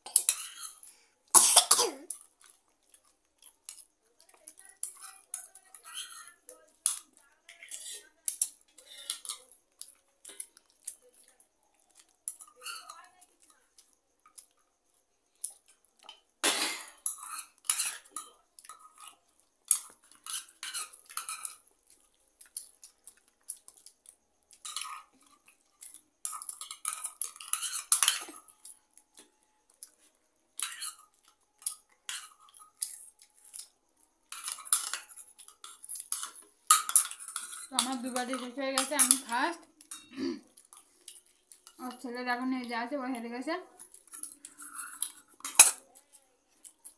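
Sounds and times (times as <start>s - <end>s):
metal spoons scraping bowls: 0.0s - 1.0s, 2.1s - 13.5s, 16.8s - 46.9s.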